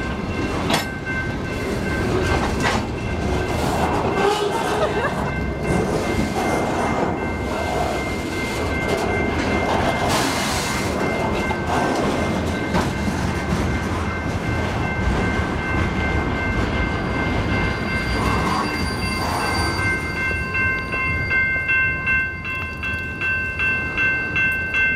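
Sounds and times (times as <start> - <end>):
crossing signal bell ringing: 0.0 - 24.9
train wheels rumbling: 0.0 - 24.9.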